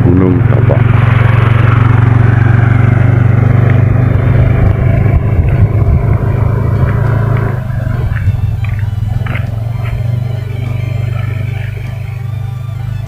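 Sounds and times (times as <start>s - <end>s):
vehicle engine humming: 0.0s - 13.0s
rushing noise: 0.6s - 13.0s.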